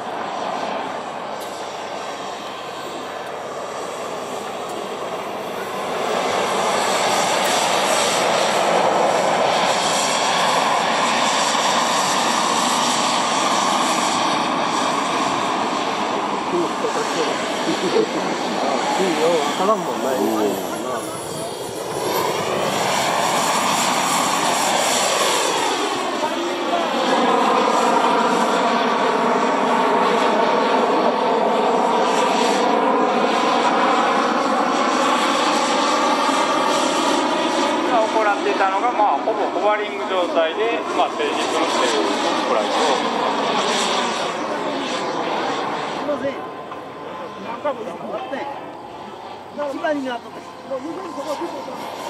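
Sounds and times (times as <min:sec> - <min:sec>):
model jet turbine roaring: 0:00.0 - 0:52.0.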